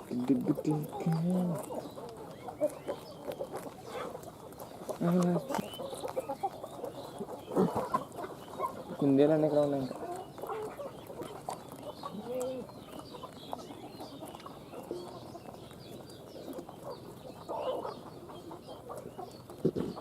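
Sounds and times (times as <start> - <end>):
hen clucking: 0.0 - 20.0
small birds chirping faintly: 0.0 - 20.0.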